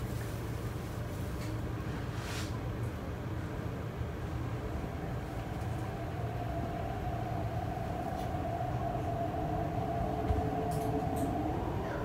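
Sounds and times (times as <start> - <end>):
train running low rumble: 0.0 - 12.0
train steady whine: 0.0 - 12.0.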